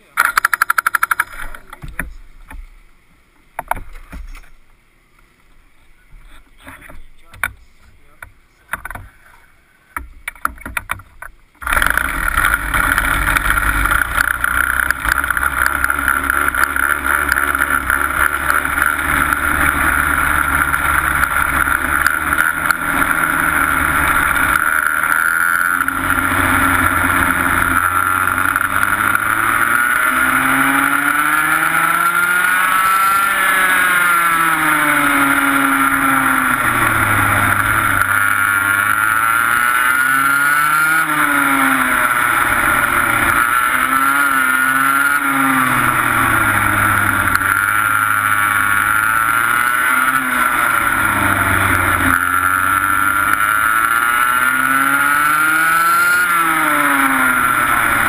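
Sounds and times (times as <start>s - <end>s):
kart engine revving: 0.0s - 2.1s, 10.3s - 58.0s.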